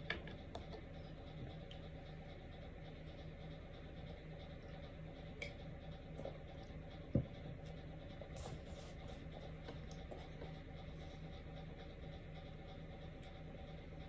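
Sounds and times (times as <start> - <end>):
faint room hum: 0.0 - 14.0.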